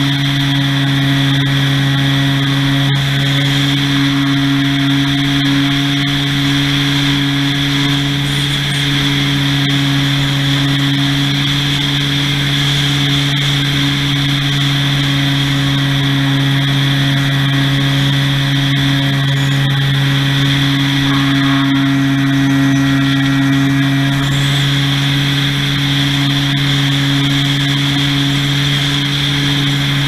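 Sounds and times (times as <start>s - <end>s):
airflow noise: 0.0s - 30.0s
propeller plane motor whine: 0.0s - 30.0s.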